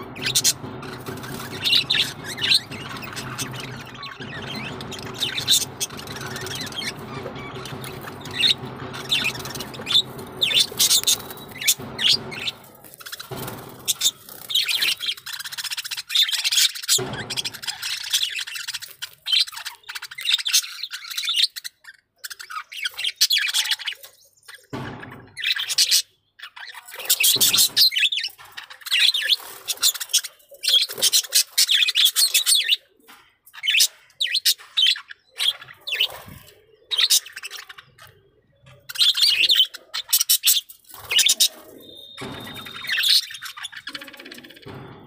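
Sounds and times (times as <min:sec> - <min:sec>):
budgerigars chirping and chattering: 0:00.0 - 0:45.0.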